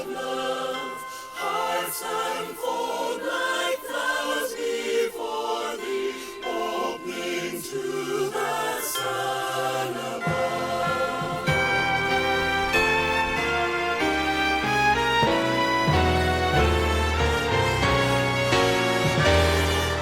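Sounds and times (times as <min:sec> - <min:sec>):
choir singing with instruments: 0:00.0 - 0:20.0.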